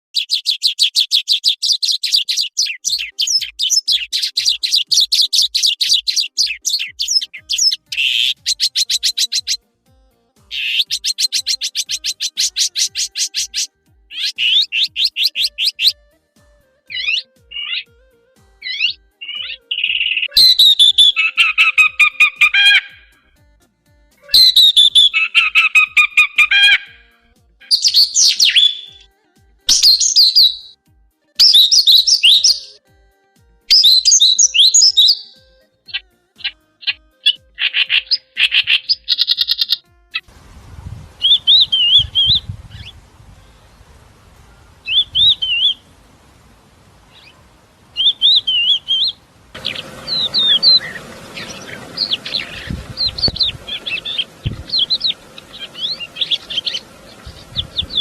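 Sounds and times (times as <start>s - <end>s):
songbird chirping: 0.1s - 23.4s, 24.1s - 30.8s, 31.4s - 32.8s, 33.7s - 58.0s.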